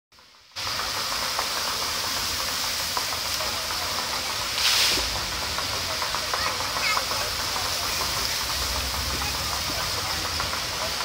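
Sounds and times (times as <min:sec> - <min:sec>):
fountain water splashing: 0:00.2 - 0:11.0
whoosh of spray: 0:00.5 - 0:11.0.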